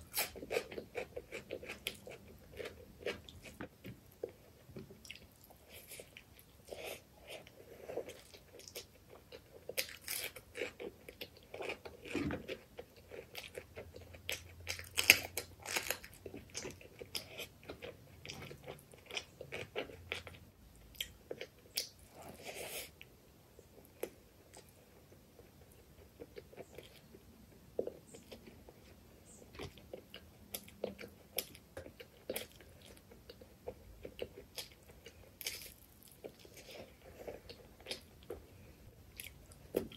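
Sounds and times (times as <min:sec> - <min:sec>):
chewing and mouth smacks: 0:00.1 - 0:23.0, 0:24.0 - 0:39.9.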